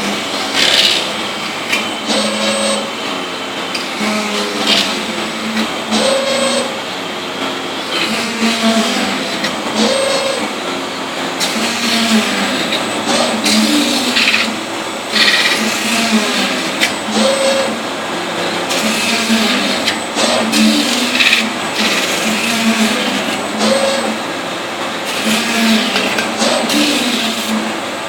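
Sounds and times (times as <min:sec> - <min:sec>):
lathe machine humming: 0:00.0 - 0:28.0.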